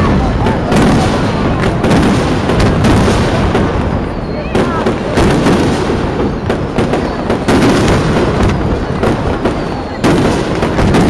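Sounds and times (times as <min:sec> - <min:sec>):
fireworks bangs: 0:00.0 - 0:11.0
fireworks rumble and crackle: 0:00.0 - 0:11.0.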